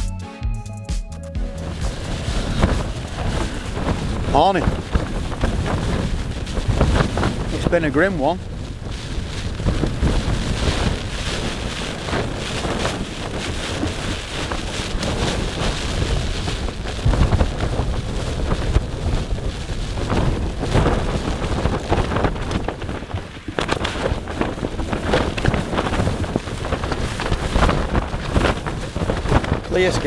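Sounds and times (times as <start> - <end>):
tent flysheet flapping: 1.6 - 30.0
wind buffeting microphone: 1.6 - 30.0.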